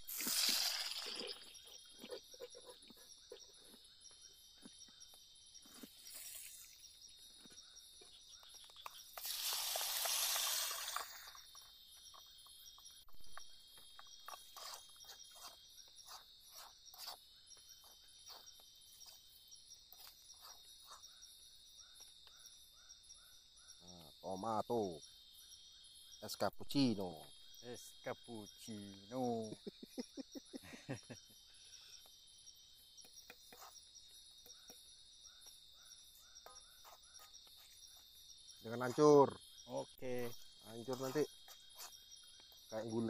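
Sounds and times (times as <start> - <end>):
high-pitched insect chorus: 0.0 - 43.0.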